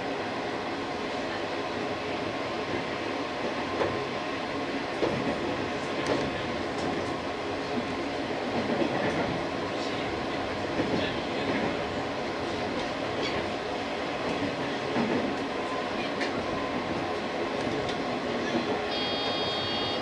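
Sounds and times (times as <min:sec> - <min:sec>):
train rolling rumble: 0:00.0 - 0:20.0.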